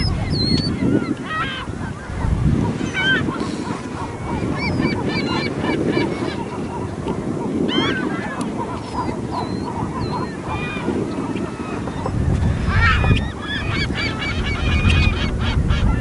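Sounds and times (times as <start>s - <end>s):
flock of water birds calling: 0.0s - 16.0s.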